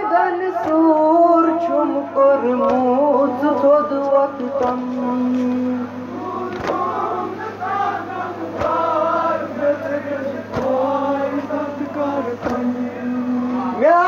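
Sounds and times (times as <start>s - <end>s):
voices chanting a lament in unison: 0.0s - 14.0s
rhythmic thumps: 0.6s - 13.9s.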